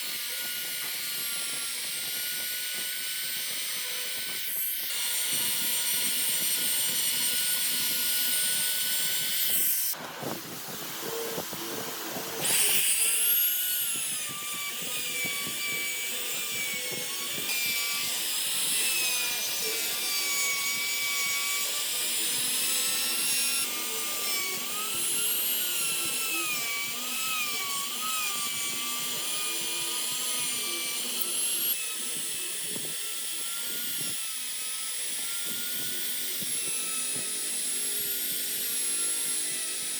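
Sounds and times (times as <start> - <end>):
rasping wood cutting: 0.0 - 10.0, 11.3 - 39.9
power tool motor whine: 0.0 - 39.9.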